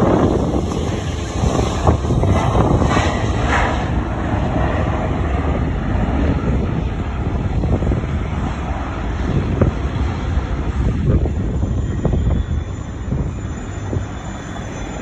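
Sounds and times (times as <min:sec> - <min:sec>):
jet engines at takeoff: 0:00.0 - 0:15.0
wind buffeting microphone: 0:00.0 - 0:15.0.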